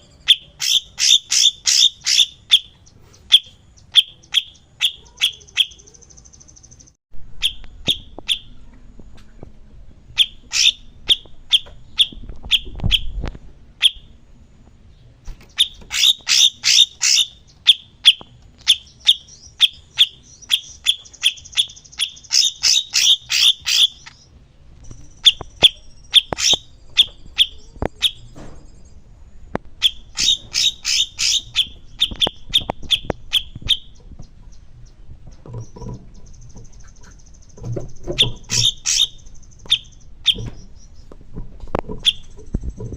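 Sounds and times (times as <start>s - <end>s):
bird sharp chirps: 0.0s - 8.6s, 10.1s - 13.2s, 13.8s - 14.2s, 15.3s - 41.2s, 42.0s - 42.9s
buzzy high bird trill: 0.0s - 8.6s, 10.1s - 13.2s, 15.5s - 34.1s, 35.6s - 41.1s.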